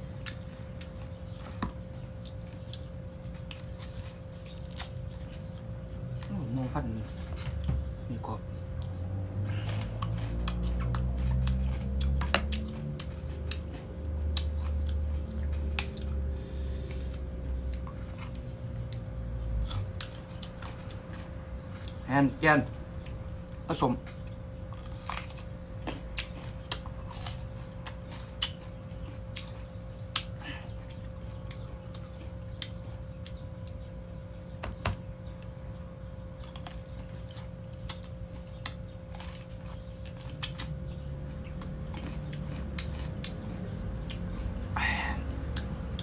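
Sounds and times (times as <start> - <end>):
mango being bitten and chewed: 0.0 - 22.1, 23.0 - 34.6, 36.4 - 46.0
steady hum: 0.0 - 46.0.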